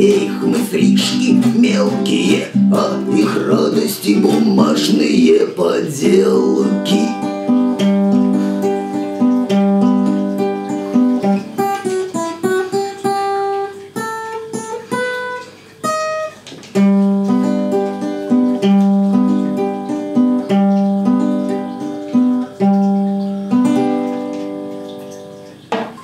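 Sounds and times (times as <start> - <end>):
acoustic guitar strumming and picking: 0.0 - 26.0.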